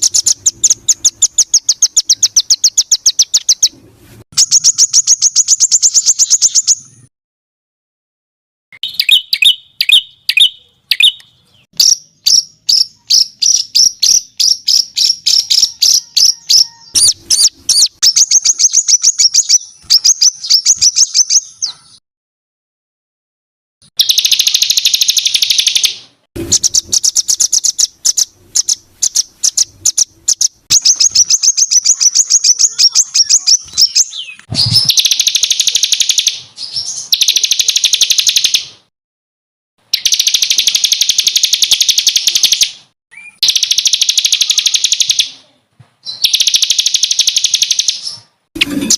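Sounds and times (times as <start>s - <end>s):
songbird singing fast sharp notes: 0.0s - 3.8s, 4.4s - 7.1s, 8.8s - 22.0s, 23.9s - 38.8s, 39.9s - 45.4s, 46.0s - 48.9s.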